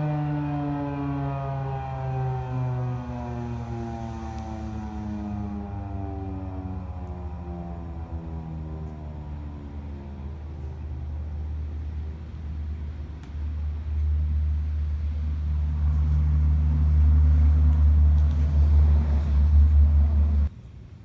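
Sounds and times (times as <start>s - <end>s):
siren winding down: 0.0s - 20.5s
low steady rumble: 0.0s - 20.6s.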